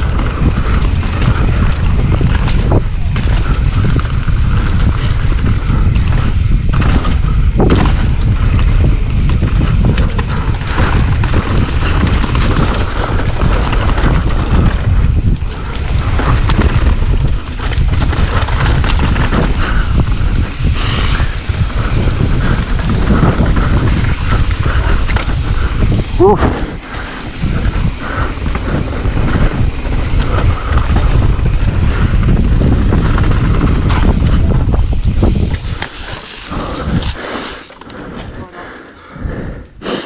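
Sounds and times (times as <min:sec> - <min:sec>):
bike knocking and rattling: 0:00.0 - 0:38.6
tyres rushing on dirt trail: 0:00.0 - 0:40.0
wind noise on microphone: 0:00.0 - 0:40.0.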